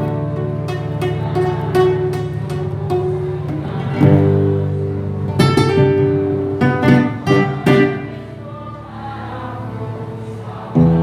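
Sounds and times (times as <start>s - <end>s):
acoustic guitar playing: 0.0s - 11.0s.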